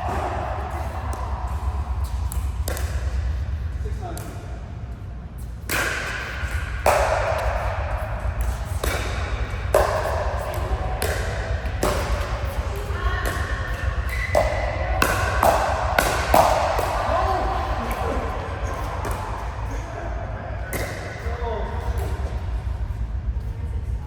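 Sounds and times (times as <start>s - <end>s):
ball hits echoing in hall: 0.0s - 4.8s, 5.5s - 23.0s.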